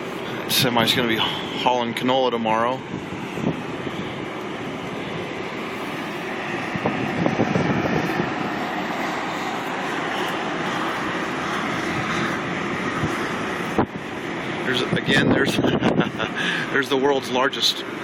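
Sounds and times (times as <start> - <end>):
truck engine and tyre noise: 0.0 - 18.0.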